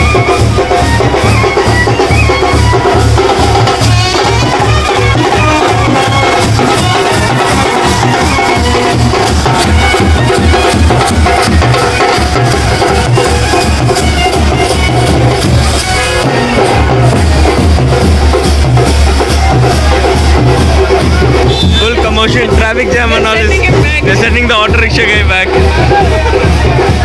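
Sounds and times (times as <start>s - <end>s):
bass drums beating: 0.0s - 27.0s
horns playing a melody: 0.0s - 27.0s
marching band playing: 0.0s - 27.0s.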